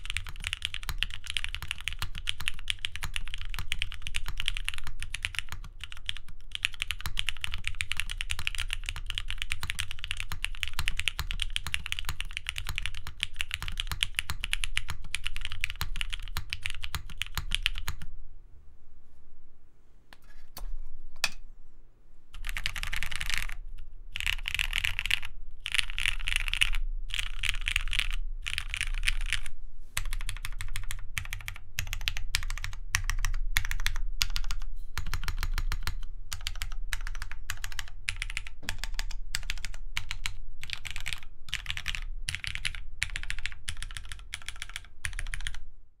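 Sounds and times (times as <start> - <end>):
mechanical keyboard typing: 0.0 - 18.1, 22.4 - 45.6.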